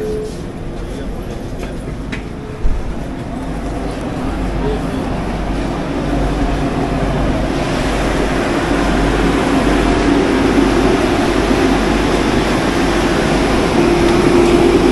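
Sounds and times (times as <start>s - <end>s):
electric train humming and whirring: 0.0s - 14.9s.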